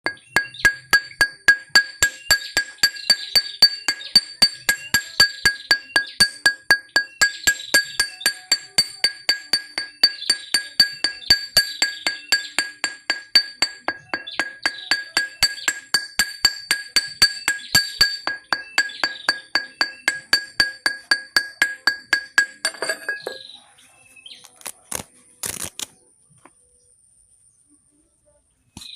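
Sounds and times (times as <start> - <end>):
hammer striking anvil: 0.0 - 23.5.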